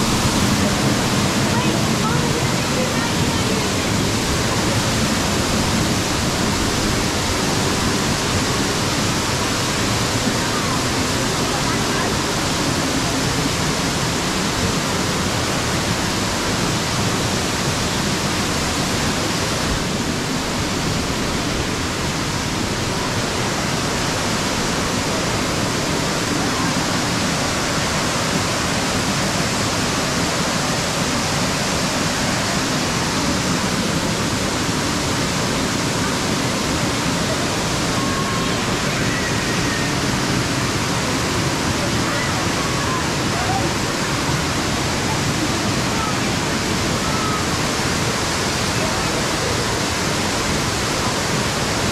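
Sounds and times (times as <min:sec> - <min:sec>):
waterfall pouring onto rocks: 0:00.0 - 0:51.9.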